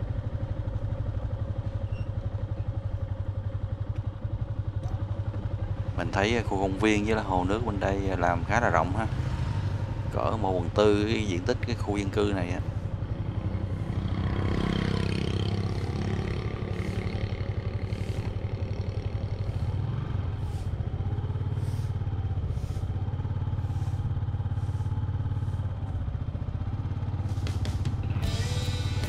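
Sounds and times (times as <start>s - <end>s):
motorbike engine cruising: 0.0s - 29.0s.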